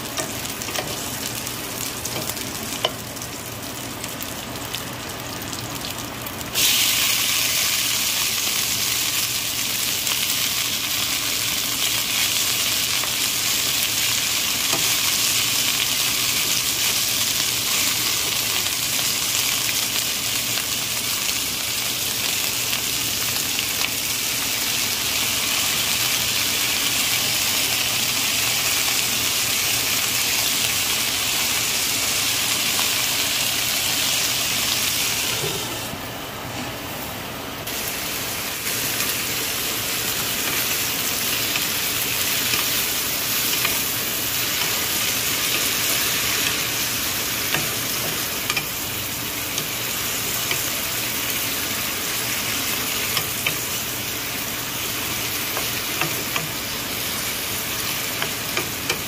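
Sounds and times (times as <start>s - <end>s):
food sizzling in oil: 0.0s - 36.2s, 36.8s - 59.0s.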